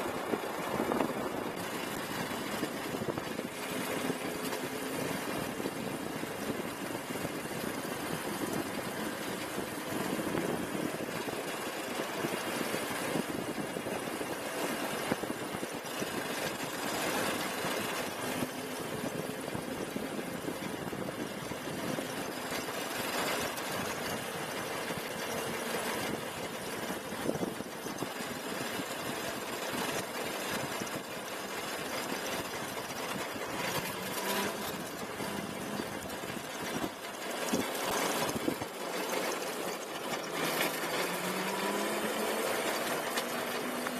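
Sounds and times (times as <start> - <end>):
electric go-kart rumbling on asphalt: 0.0 - 43.9.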